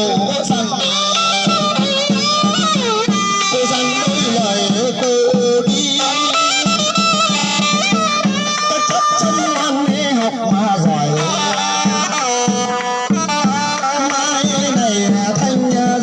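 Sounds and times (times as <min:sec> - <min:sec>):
steady drum beats: 0:00.0 - 0:16.0
wind instrument melody: 0:00.0 - 0:16.0.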